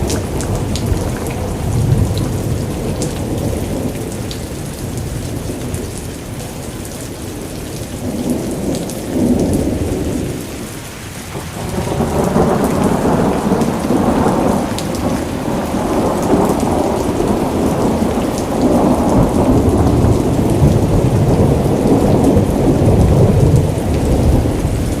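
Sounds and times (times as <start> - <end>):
rain: 0.0 - 25.0.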